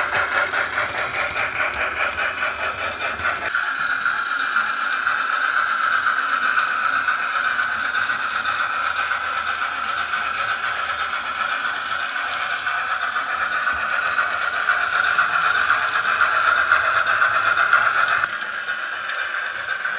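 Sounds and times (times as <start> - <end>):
model train steam hiss: 0.0 - 19.9
wheels rattling on rails: 0.0 - 19.9.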